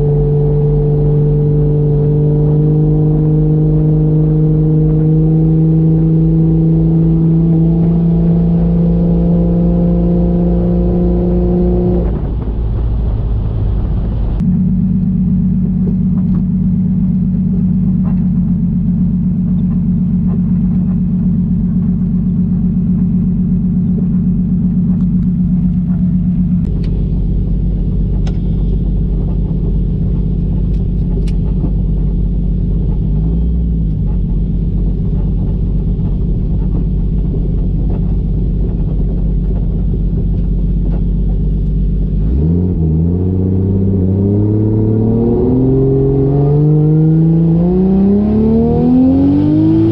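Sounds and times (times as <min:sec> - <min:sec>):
car engine cruising and accelerating: 0:00.0 - 0:49.9.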